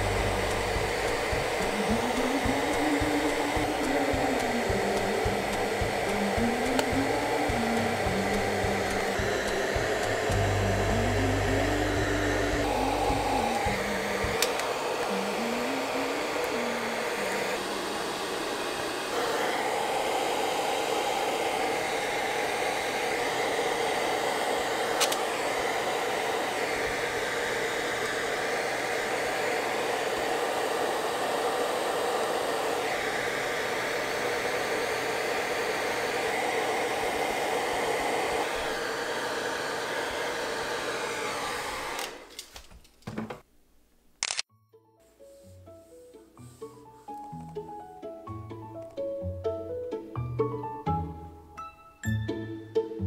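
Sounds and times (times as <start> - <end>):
electric blower motor whirring: 0.0 - 42.5.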